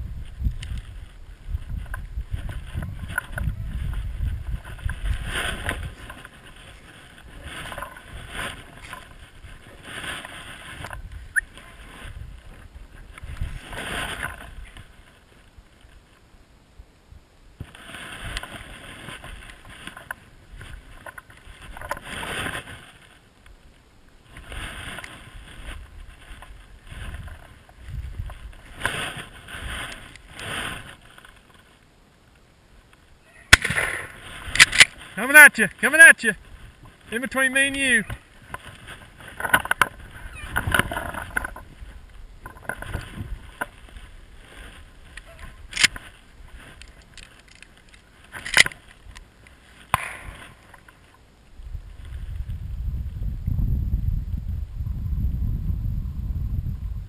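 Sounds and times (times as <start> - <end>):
footsteps crunching through stubble: 0.0 - 16.3, 17.5 - 53.2
wind rumbling on microphone: 0.0 - 57.0.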